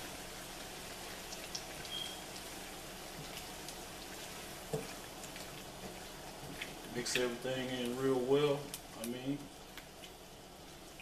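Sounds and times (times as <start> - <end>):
meat and vegetables sizzling: 0.0 - 11.0.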